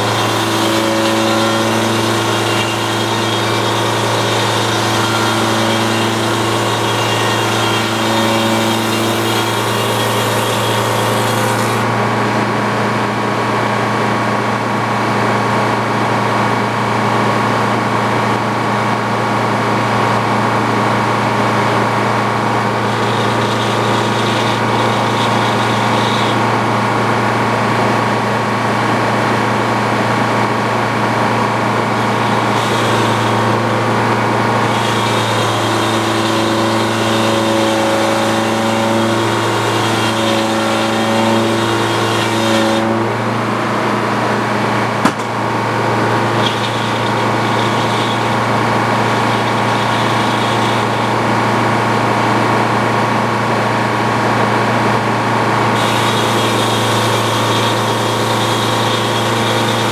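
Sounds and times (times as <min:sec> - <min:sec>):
sawmill engine droning: 0:00.0 - 0:59.9.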